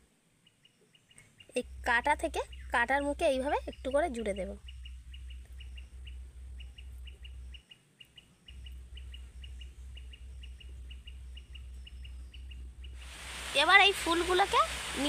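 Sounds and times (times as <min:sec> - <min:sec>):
small birds chirping: 0:00.4 - 0:15.0
low pulsing hum: 0:01.5 - 0:15.0.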